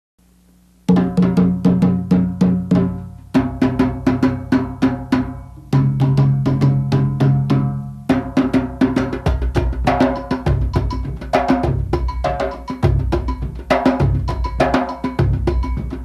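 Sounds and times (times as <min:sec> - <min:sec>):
pitched drum strikes: 0:00.9 - 0:16.0.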